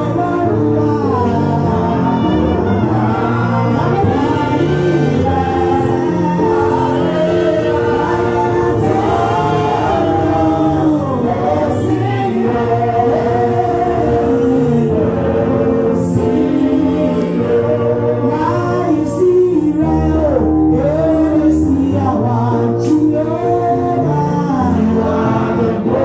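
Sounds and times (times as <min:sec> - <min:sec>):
congregation singing a hymn: 0:00.0 - 0:26.0.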